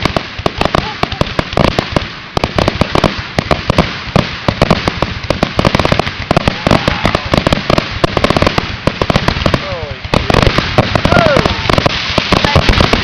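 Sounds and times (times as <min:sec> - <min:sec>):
fireworks barrage: 0:00.0 - 0:13.0.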